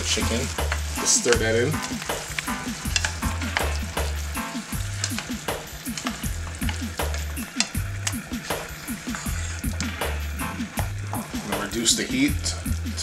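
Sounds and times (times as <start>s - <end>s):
sauce sizzling: 0.0s - 13.0s
spatula scraping a frying pan: 0.0s - 13.0s.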